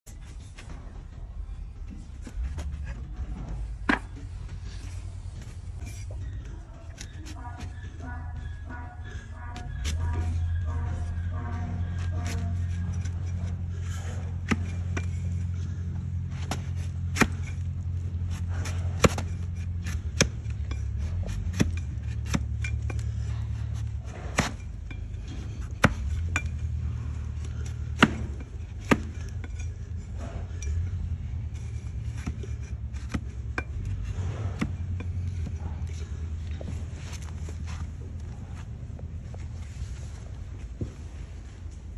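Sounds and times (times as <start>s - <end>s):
steady low hum: 0.1s - 41.9s
blade cutting hoof: 2.3s - 38.5s.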